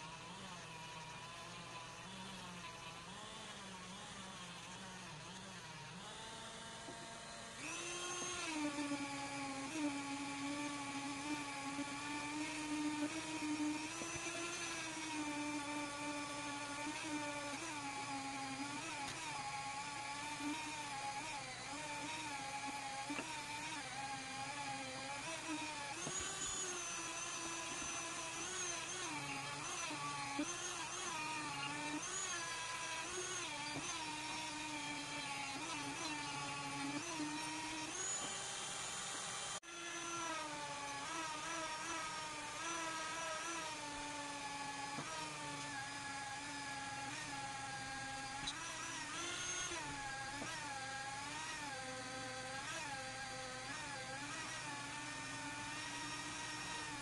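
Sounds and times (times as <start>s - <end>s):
rotary tool polishing metal: 0.0s - 57.0s.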